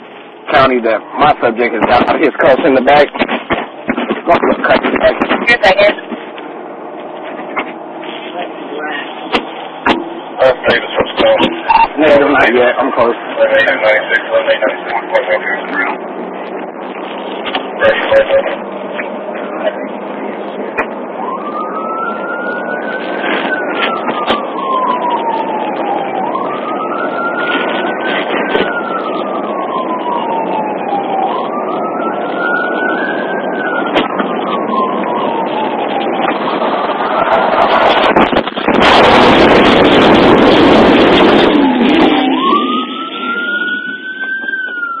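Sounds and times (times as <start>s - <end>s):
loud rough rushing noise: 0.0s - 45.0s
road and engine noise: 0.0s - 45.0s
police siren wailing: 0.1s - 45.0s.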